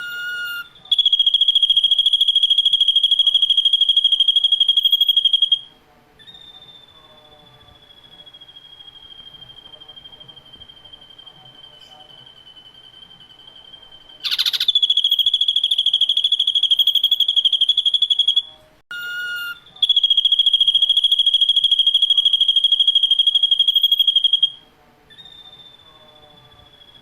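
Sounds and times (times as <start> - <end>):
bird call on several pitches: 0.0 - 12.3, 14.1 - 27.0
bird trilling song: 0.0 - 12.4, 13.6 - 27.0
faint steady whistle: 0.0 - 27.0.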